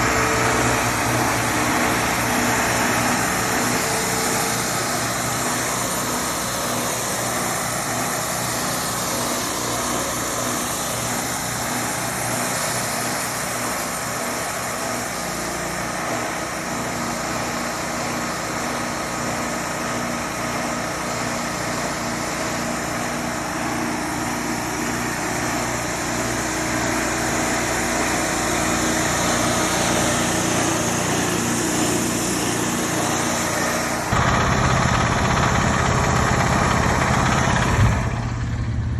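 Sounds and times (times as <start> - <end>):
louder lower engine sound: 0.0 - 38.9
sawmill engine running: 0.0 - 38.9.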